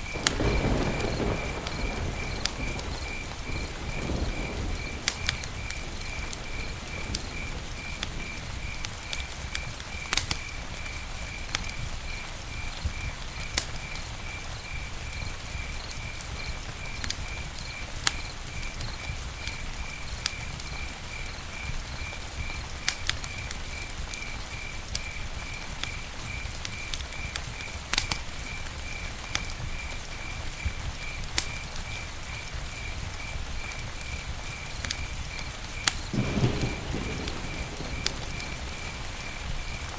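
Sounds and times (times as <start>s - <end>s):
campfire crackling and popping: 0.0s - 39.9s
insect chirping: 0.0s - 39.9s.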